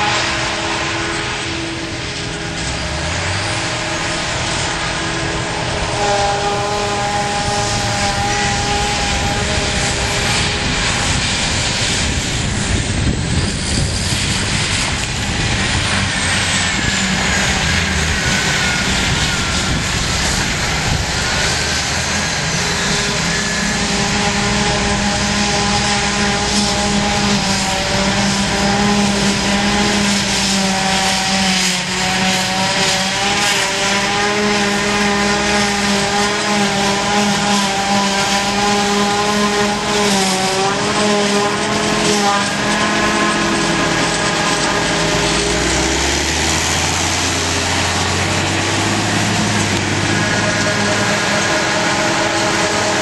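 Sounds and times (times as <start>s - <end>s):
constant whine: 0.0s - 53.0s
farm machinery engines running: 0.0s - 53.0s
high tone sweeping down: 0.0s - 53.0s.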